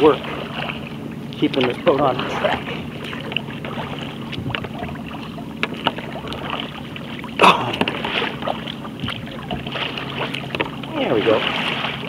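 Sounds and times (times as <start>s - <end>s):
water slapping against kayak hull: 0.0s - 12.0s.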